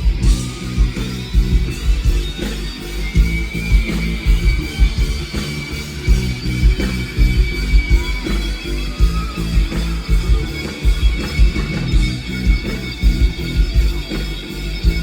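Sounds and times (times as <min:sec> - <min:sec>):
live rock band playing: 0:00.0 - 0:15.0
steady drum beat: 0:00.0 - 0:15.0.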